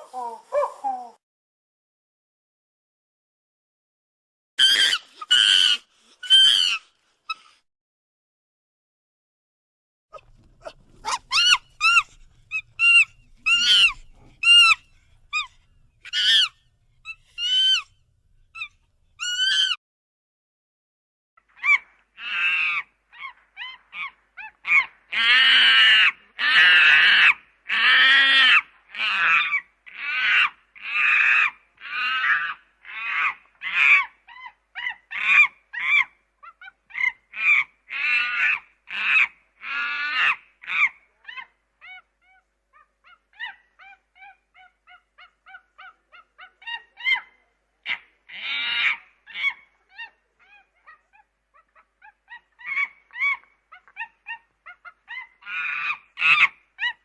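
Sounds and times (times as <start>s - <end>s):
monkey calls: 4.6s - 7.5s, 10.2s - 17.9s, 18.6s - 19.8s, 21.6s - 57.0s.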